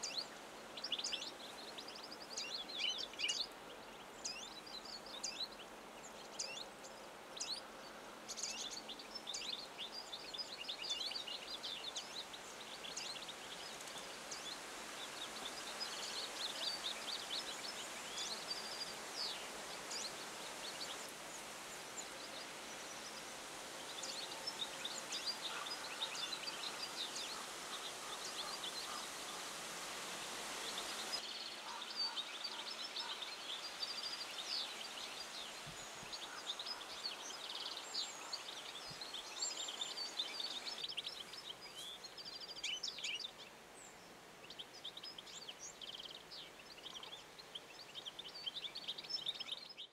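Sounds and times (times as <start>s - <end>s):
outdoor background noise: 0.0s - 49.9s.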